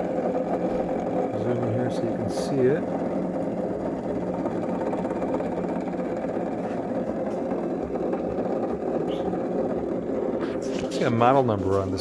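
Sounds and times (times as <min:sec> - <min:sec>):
grinder wheels spinning down hum: 0:00.0 - 0:12.0.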